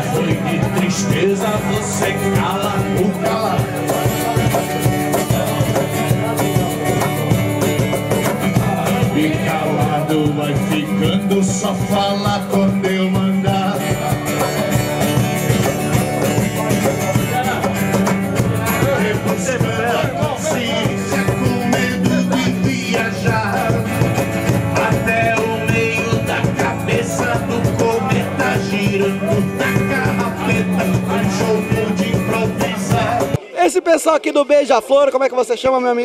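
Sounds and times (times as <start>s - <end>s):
strummed acoustic guitar: 0.0s - 33.9s
man singing: 0.0s - 35.0s.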